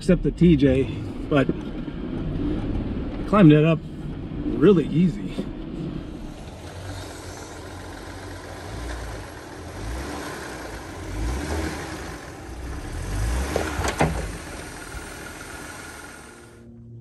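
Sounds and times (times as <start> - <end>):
off-road vehicle engine rumbling: 0.0 - 17.0.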